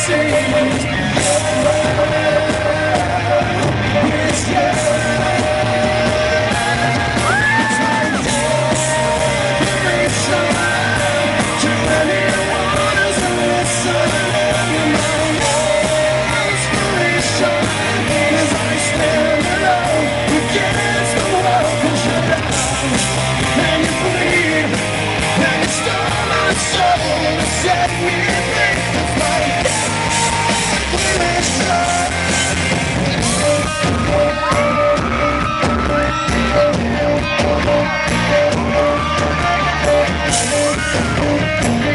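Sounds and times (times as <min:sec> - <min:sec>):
live rock band playing: 0:00.0 - 0:41.9
man singing: 0:00.0 - 0:41.9.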